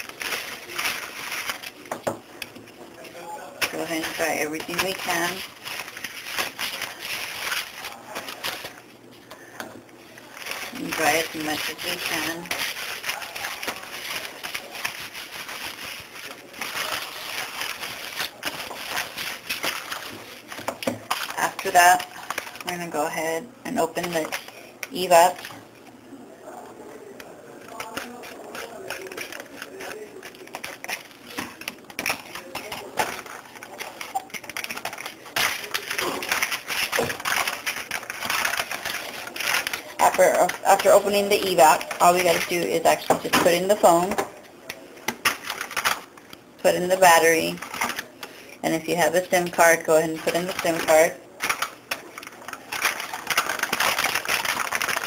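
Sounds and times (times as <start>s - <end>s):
paper towels rustling and crinkling: 0.0s - 25.6s, 27.4s - 55.0s.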